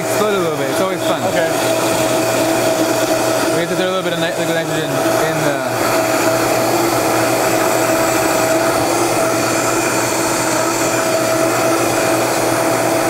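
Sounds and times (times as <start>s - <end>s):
blender whining: 0.0s - 13.0s.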